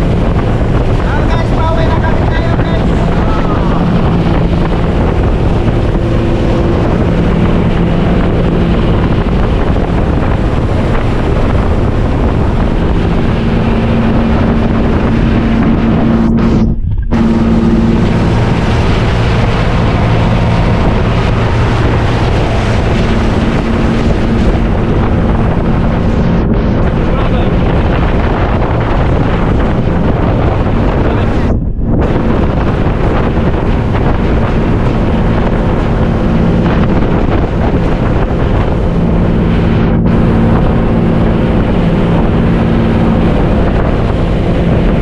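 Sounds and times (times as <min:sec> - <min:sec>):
motorboat engine humming: 0:00.0 - 0:45.0
wind noise on microphone: 0:00.0 - 0:45.0.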